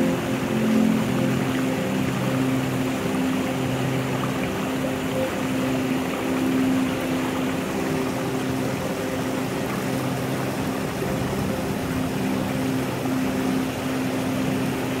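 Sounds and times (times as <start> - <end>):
low steady tones: 0.0 - 15.0
stream rushing over rocks: 0.0 - 15.0.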